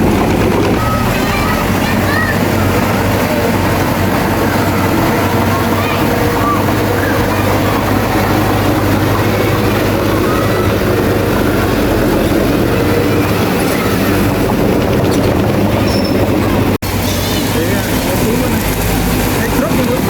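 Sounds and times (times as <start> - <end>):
bulldozer diesel engine: 0.0 - 20.0
steel tracks running: 0.0 - 20.0.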